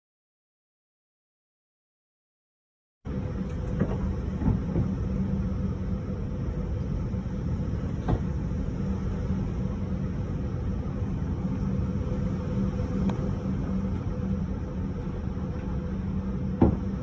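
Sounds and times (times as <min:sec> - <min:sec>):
low hum: 0:03.1 - 0:17.0.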